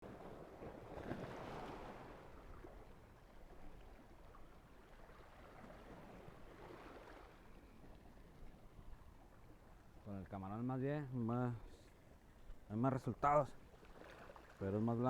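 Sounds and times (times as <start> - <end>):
faint surf on a beach: 0.0 - 15.0.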